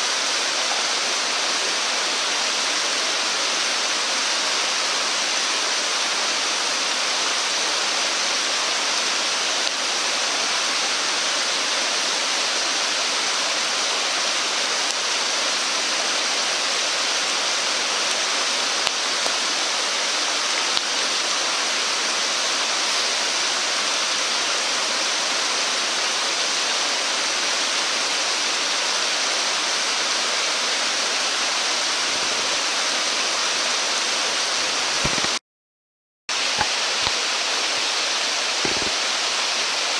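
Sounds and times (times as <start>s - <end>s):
stream water rushing: 0.0s - 35.4s, 36.3s - 39.9s.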